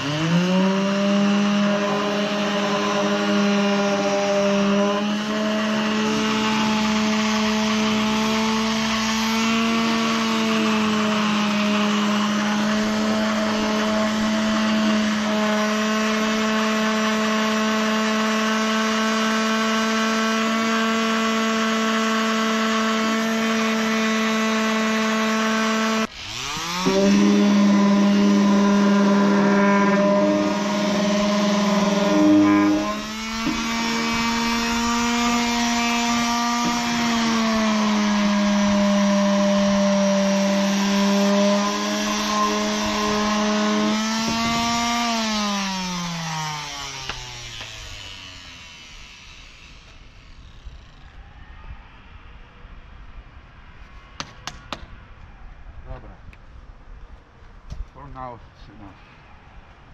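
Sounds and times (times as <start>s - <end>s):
orbital sander sanding wood: 0.0s - 50.8s.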